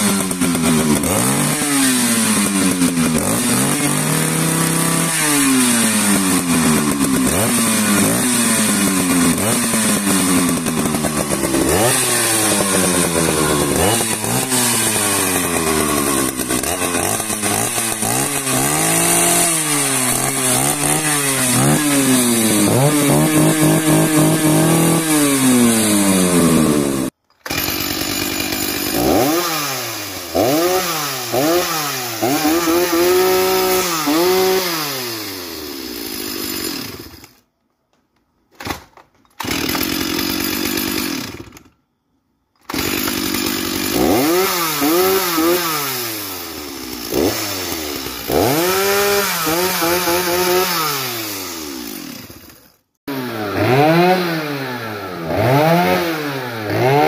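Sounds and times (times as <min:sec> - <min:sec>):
chainsaw engines revving: 0:00.0 - 0:37.4, 0:39.4 - 0:41.8, 0:42.6 - 0:57.0.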